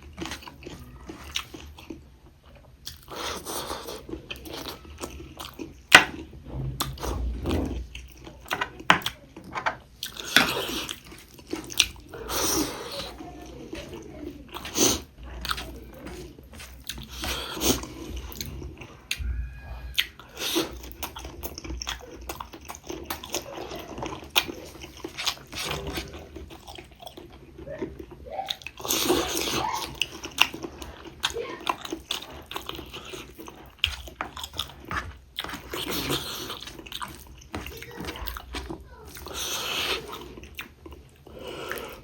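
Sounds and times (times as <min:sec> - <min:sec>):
chewing and biting: 0:00.0 - 0:19.3, 0:19.9 - 0:42.0.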